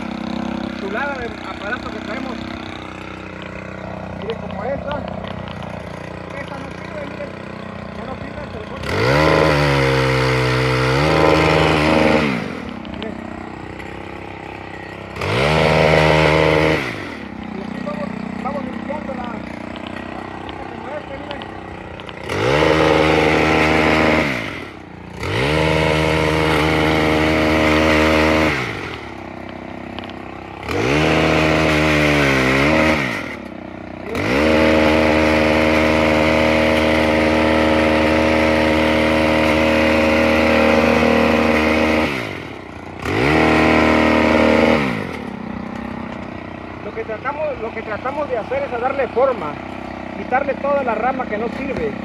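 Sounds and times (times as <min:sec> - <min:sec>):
pole saw engine revving: 0:00.0 - 0:52.0
saw chain cutting branch: 0:00.0 - 0:52.0.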